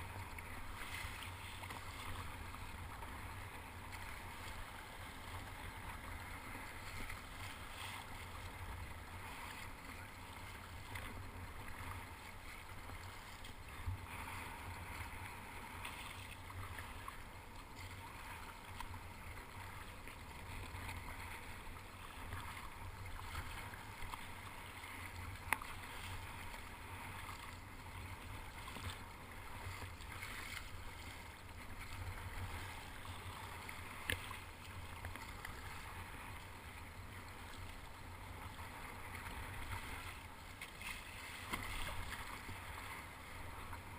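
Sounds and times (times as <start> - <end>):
water splashing around kayak: 0.0 - 43.9.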